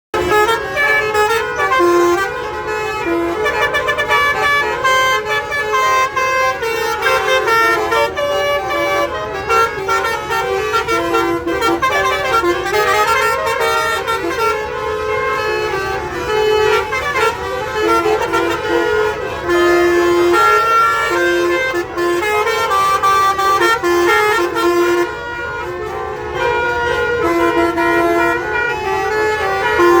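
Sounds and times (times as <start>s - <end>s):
multi-tone bus horn melody: 0.1s - 30.0s.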